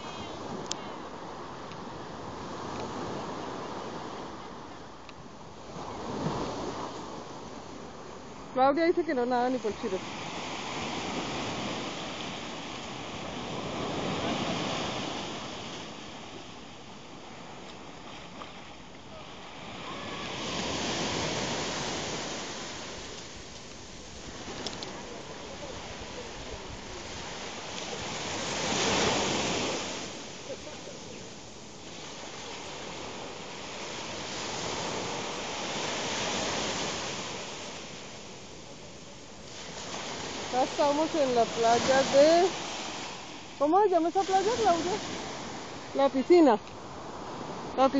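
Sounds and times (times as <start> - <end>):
small waves breaking on beach: 0.0 - 47.9.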